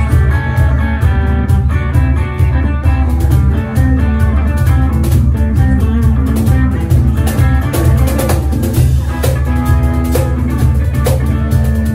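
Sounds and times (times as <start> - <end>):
cajon beat: 0.0 - 11.9
electric guitar melody: 0.0 - 11.9.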